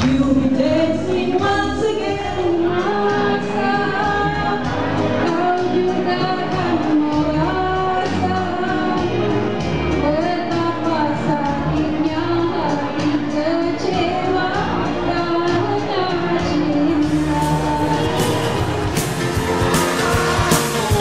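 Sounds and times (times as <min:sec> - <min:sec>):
woman singing: 0:00.0 - 0:09.4, 0:10.0 - 0:19.2, 0:19.9 - 0:21.0
backing music with beat: 0:00.0 - 0:21.0.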